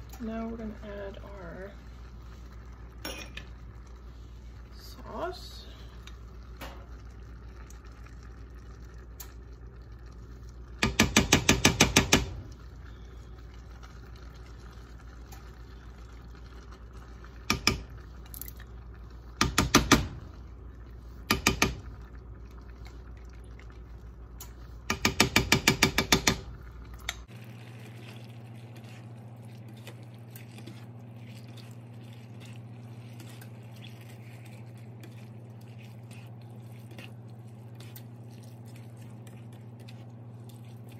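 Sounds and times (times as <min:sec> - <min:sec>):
steady low hum: 0:00.0 - 0:10.9, 0:12.2 - 0:40.9.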